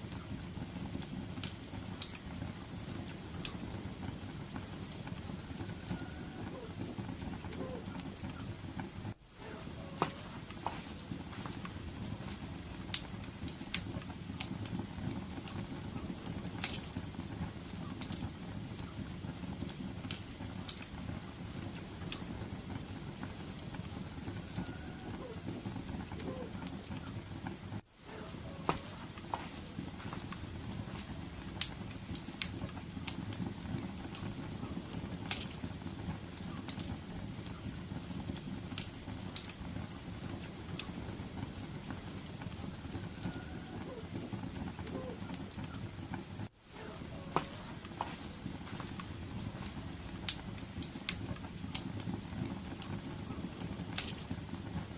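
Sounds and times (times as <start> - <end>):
fire pops: 0.0 - 54.9
low fire rumble: 0.0 - 54.9
wood fire crackling: 0.0 - 54.9.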